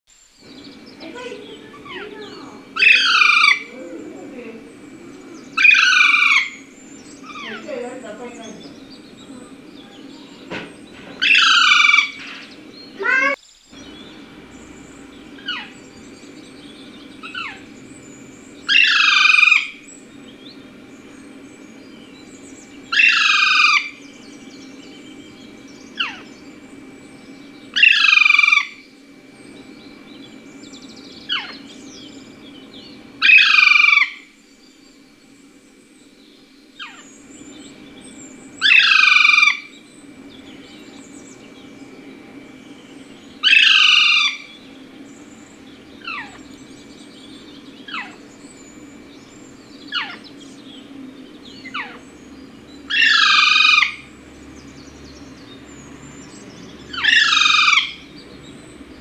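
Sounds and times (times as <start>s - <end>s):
steady low hum: 0.1s - 59.0s
falling chirps: 0.3s - 59.0s
parakeet calls: 0.4s - 59.0s.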